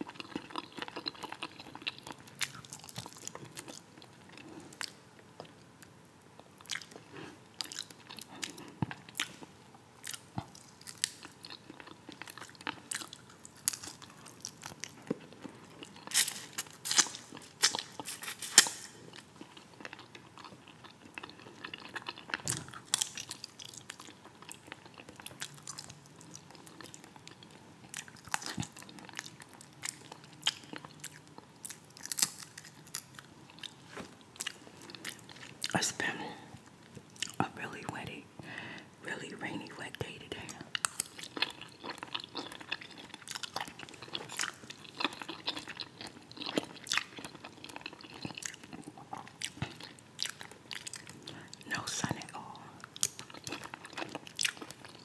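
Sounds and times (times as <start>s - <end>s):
food crunching: 0.0s - 37.4s, 40.4s - 55.0s
person chewing food: 0.0s - 37.4s, 40.4s - 55.0s.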